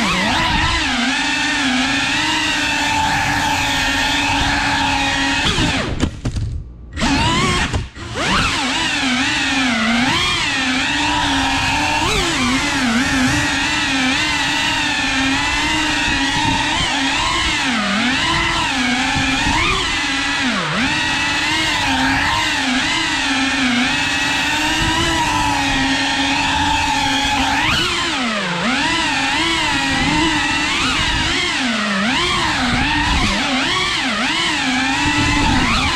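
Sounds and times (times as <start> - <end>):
drone motors whining: 0.0 - 35.9.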